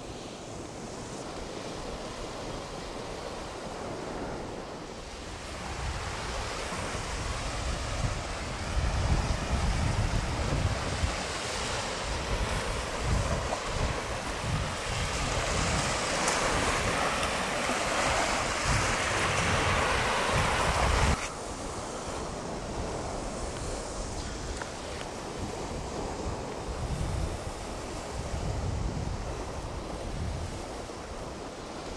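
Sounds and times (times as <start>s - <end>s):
surf on sandy shore: 0.0s - 31.9s
wind buffeting microphone: 0.0s - 31.9s.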